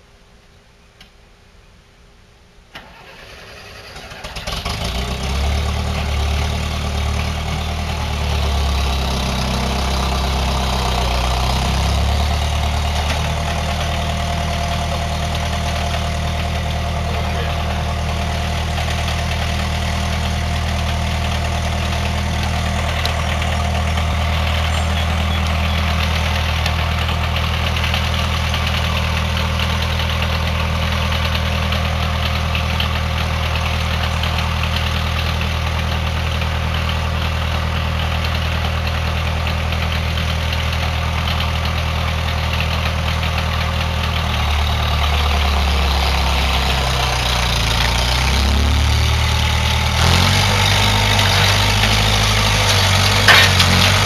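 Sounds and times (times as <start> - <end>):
loader engine running: 2.8 - 54.0.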